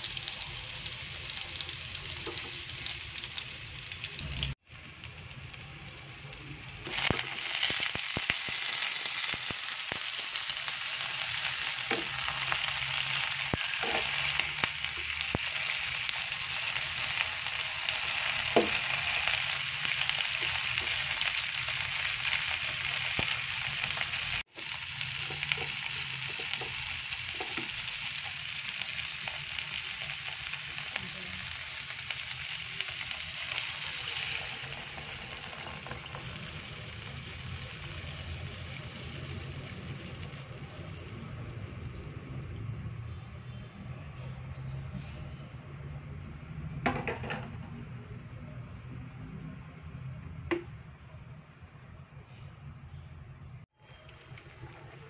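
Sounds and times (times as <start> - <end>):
oil sizzling in a wok: 0.0 - 43.1, 53.7 - 55.0.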